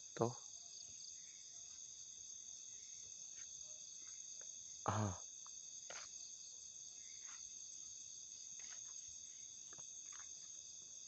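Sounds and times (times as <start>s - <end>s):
crickets and night insects: 0.0s - 11.0s.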